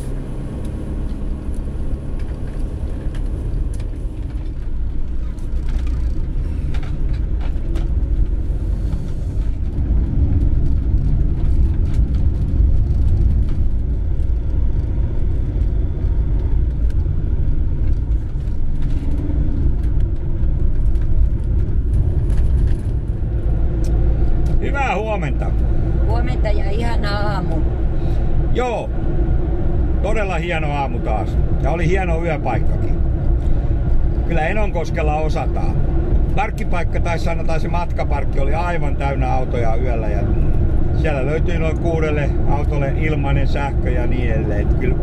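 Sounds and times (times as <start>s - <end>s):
engine and road noise rumble: 0.0s - 45.0s.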